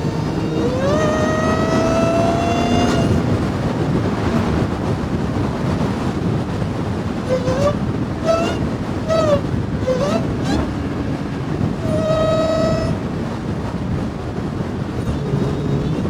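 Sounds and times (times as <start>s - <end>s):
car engine whine: 0.0s - 16.0s
road and wind noise: 0.0s - 16.0s.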